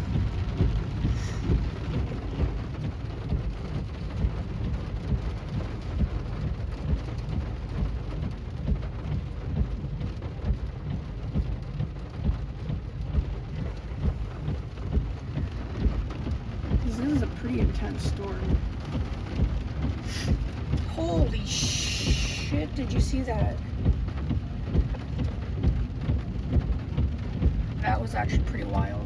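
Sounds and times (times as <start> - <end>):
heavy rain on car roof: 0.0 - 29.0.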